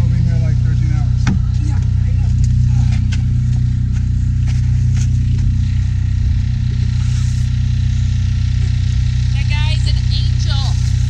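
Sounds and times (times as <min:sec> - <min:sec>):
generator engine droning: 0:00.0 - 0:11.0.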